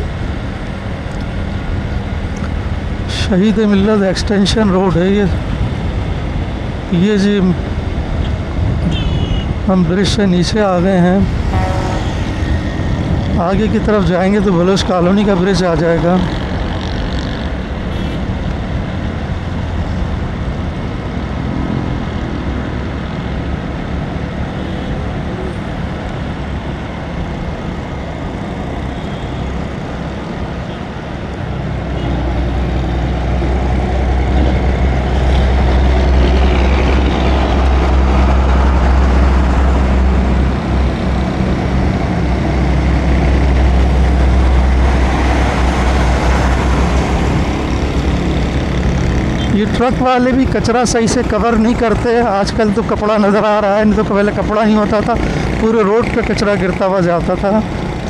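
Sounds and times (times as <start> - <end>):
road traffic: 0.0 - 58.0
truck low rumble: 0.0 - 58.0.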